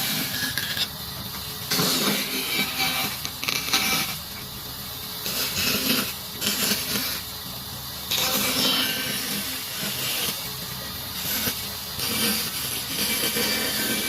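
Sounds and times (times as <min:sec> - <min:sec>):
woodworking tool working wood: 0:00.0 - 0:04.4, 0:05.2 - 0:07.3, 0:08.1 - 0:10.5, 0:11.1 - 0:14.0.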